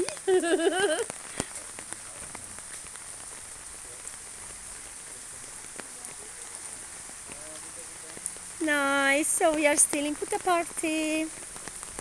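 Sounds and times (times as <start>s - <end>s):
steady rain falling: 0.0s - 12.0s
water drips and patters: 0.0s - 12.0s.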